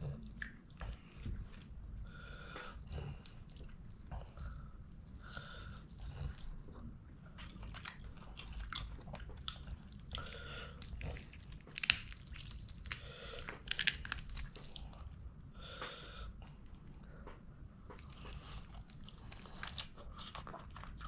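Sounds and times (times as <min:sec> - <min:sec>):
wet squelching and tearing food: 0:00.2 - 0:21.0.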